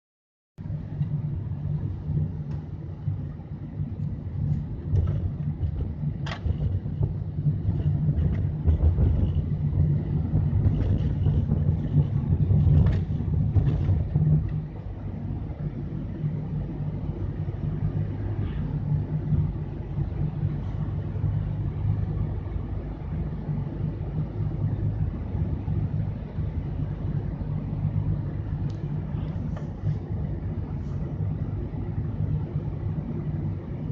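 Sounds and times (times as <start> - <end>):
car engine and road noise: 0.6 - 33.9.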